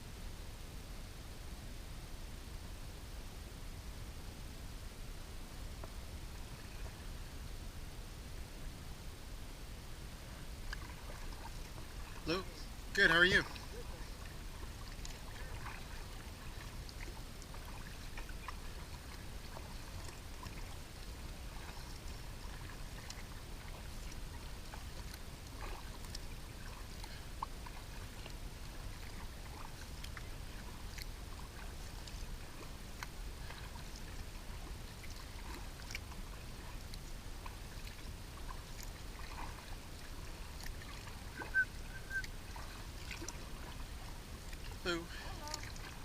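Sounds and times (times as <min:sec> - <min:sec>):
steady low rumble: 0:00.0 - 0:46.0
paddle splashes and drips: 0:05.4 - 0:07.6, 0:09.9 - 0:46.0.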